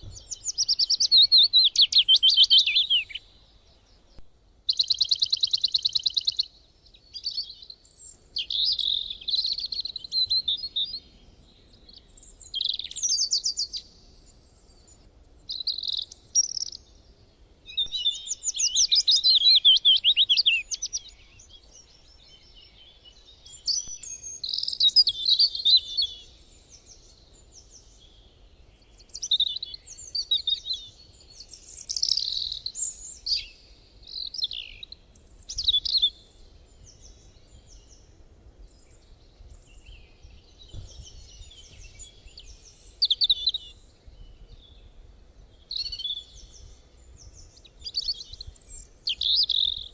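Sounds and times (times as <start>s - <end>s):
songbird chirps and trills: 0.0s - 49.9s.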